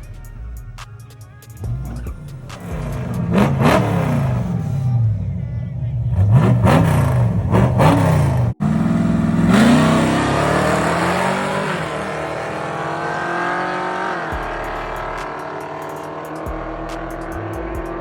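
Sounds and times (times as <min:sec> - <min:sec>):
car engine revving in blips: 0:01.5 - 0:18.0
car accelerating hard: 0:01.6 - 0:18.0.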